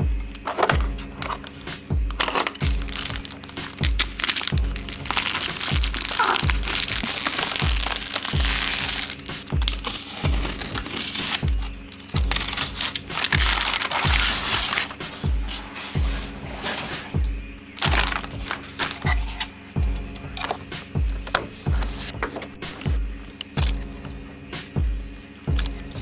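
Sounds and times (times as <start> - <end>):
background music with kick drum: 0.0 - 26.0.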